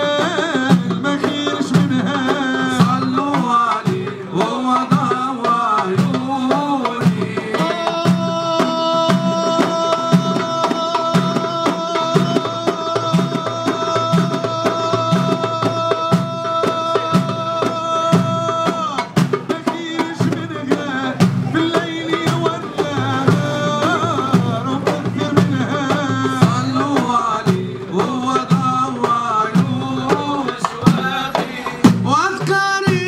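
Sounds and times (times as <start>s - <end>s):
frame drums and hand drum rhythm: 0.0s - 33.0s
man singing ornamented melody: 0.0s - 33.0s.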